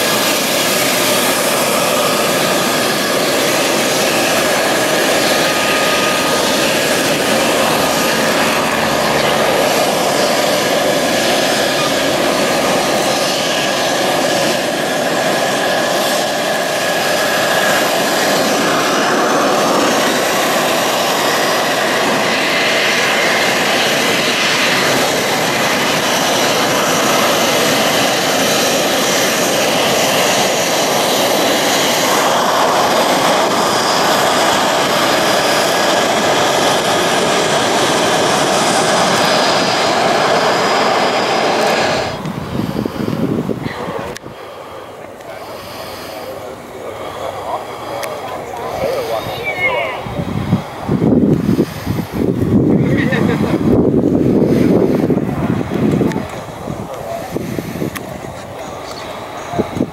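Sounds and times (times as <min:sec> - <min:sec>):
jet engine rush and whine: 0:00.0 - 0:59.9.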